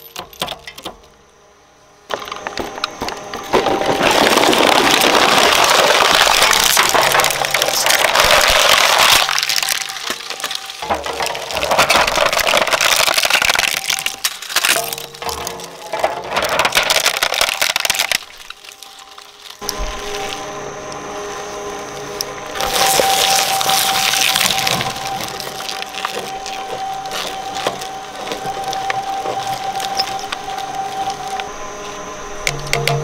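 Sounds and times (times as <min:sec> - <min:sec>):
shredder crunching plastic: 0:02.1 - 0:31.5
shredder steady hum: 0:02.1 - 0:33.0.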